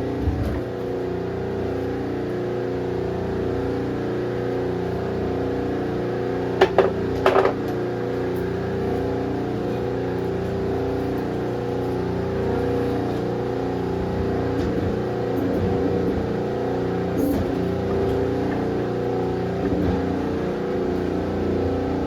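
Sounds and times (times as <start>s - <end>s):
hydraulic pump humming: 0.0s - 22.0s.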